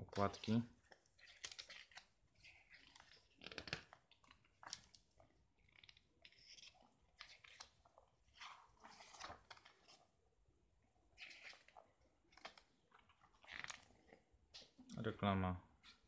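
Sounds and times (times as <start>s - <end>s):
pages rustling and crackling: 0.2s - 10.1s, 11.2s - 14.8s.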